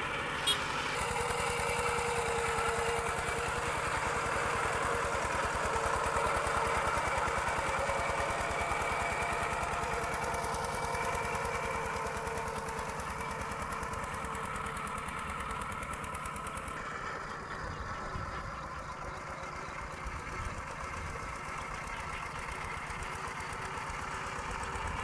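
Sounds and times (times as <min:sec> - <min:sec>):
diesel engine pulsing beat: 0:00.0 - 0:25.0.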